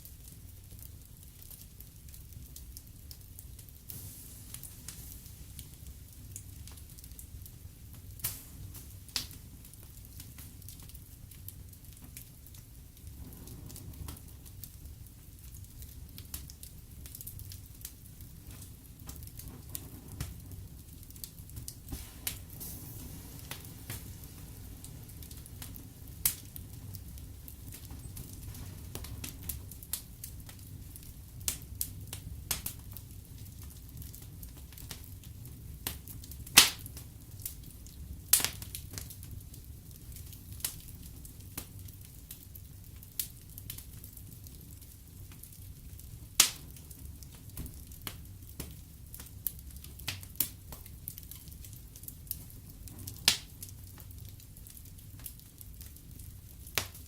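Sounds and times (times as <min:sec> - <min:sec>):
logs crackling and popping: 0:00.0 - 0:57.0
rumble of fire flames: 0:00.0 - 0:57.0.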